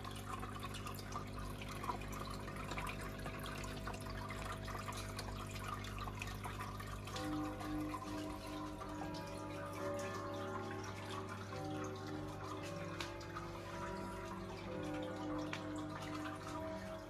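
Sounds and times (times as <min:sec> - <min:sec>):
low electric pump hum: 0:00.0 - 0:17.0
water trickling and splashing: 0:00.0 - 0:17.0.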